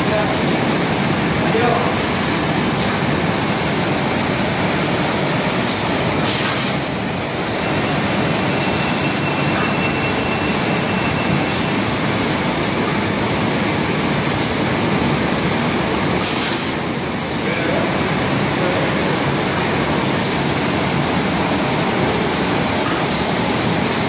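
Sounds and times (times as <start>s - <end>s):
machine running with hiss: 0.0s - 24.0s.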